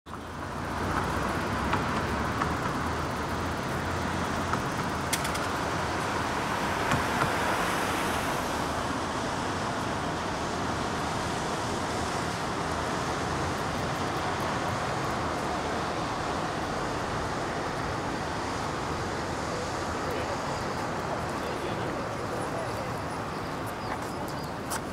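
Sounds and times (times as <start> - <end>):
road traffic hum: 0.1 - 24.9.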